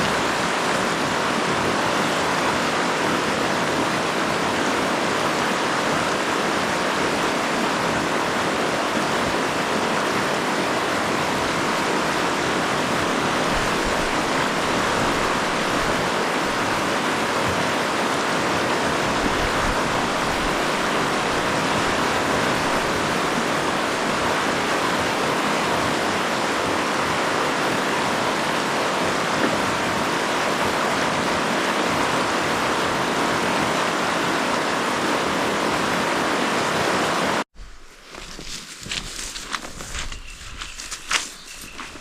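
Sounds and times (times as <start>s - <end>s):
river rapids rushing: 0.0s - 37.4s.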